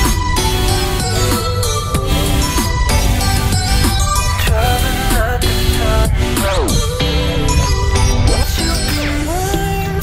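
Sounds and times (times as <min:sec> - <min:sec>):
pop song with guitar and beat: 0:00.0 - 0:10.0.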